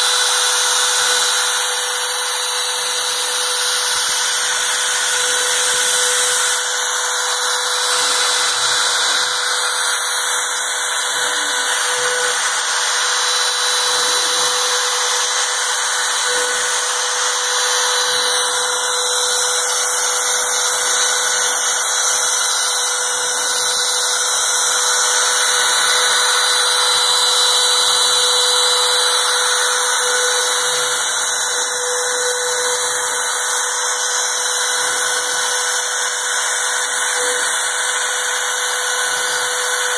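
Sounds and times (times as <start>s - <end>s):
cnc router spindle whining: 0.0s - 39.9s.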